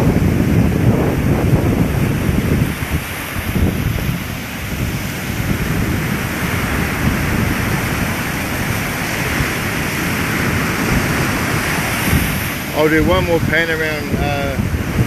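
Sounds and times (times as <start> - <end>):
sea surf breaking: 0.0 - 15.0
wind buffeting microphone: 0.0 - 15.0.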